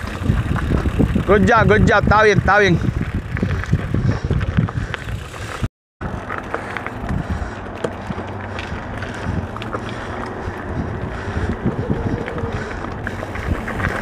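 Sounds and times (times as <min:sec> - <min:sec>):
wind on microphone: 0:00.0 - 0:06.2, 0:06.8 - 0:14.0
bike clicks and rattles: 0:00.0 - 0:14.0
bike tyres on dirt trail: 0:00.0 - 0:14.0.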